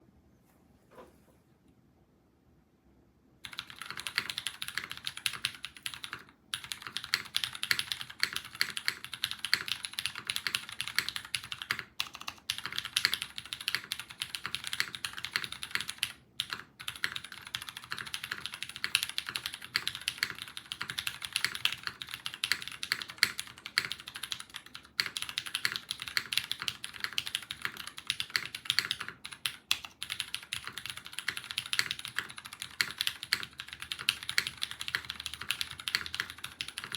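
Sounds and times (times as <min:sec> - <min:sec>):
typing on mechanical keyboard: 0:03.4 - 0:36.9.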